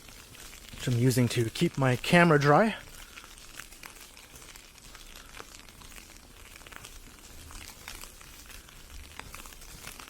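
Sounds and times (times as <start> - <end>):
ice pellets ticking on an umbrella: 0.0 - 10.0.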